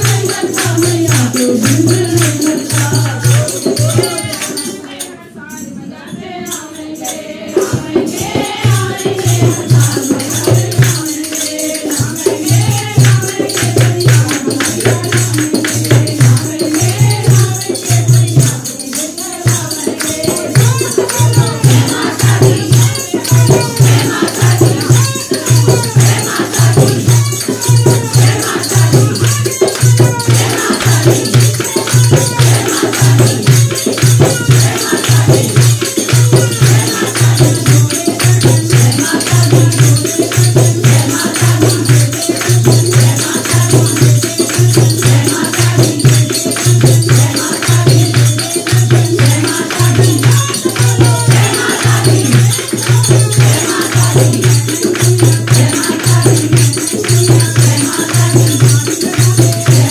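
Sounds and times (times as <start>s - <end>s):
jingling percussion: 0.0s - 59.9s
women singing together: 0.0s - 59.9s.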